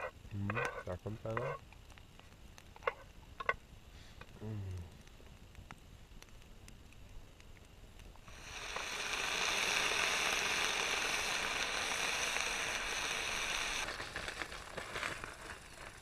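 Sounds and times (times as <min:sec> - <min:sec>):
faint campfire crackles: 0:00.0 - 0:16.0
ham sizzling in a frying pan: 0:00.0 - 0:16.0.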